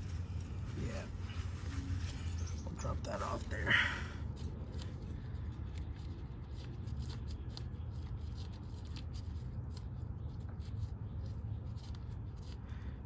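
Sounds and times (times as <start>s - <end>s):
gloved hand rubbing metal: 0.0s - 12.6s
low background rumble: 0.0s - 13.0s.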